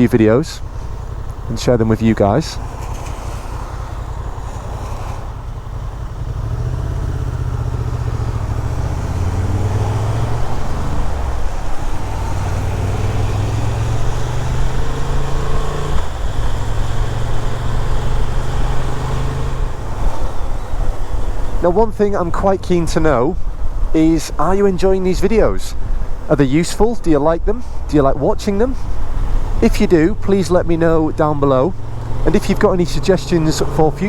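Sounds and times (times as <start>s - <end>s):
motorcycle engine running: 0.0s - 25.2s, 28.2s - 34.0s.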